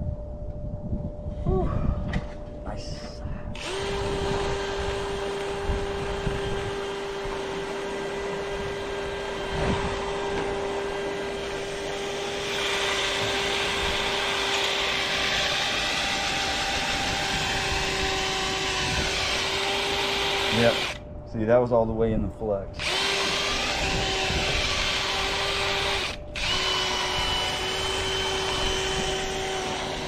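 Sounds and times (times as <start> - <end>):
power drill whine: 3.6 - 21.0, 22.8 - 30.0.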